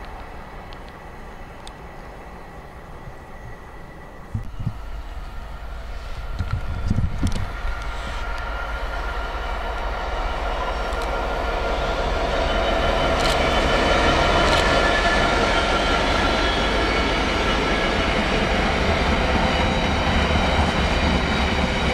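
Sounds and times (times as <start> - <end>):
train wheels rumbling: 0.0 - 21.9
train whine: 0.0 - 21.9.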